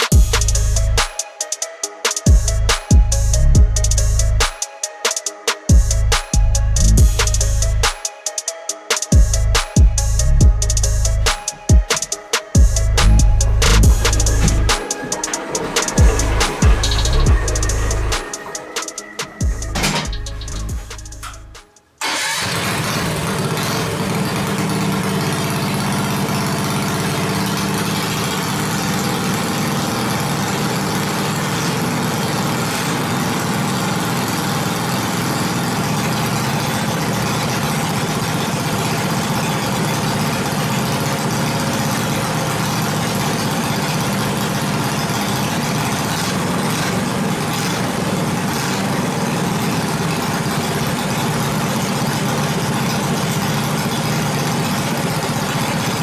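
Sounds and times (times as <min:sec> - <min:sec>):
go kart engines idling: 0:00.0 - 0:56.0.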